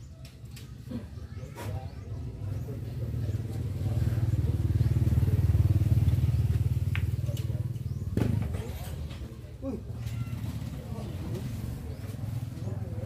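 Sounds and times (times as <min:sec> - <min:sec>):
motorcycle engine passing: 0:02.5 - 0:13.0.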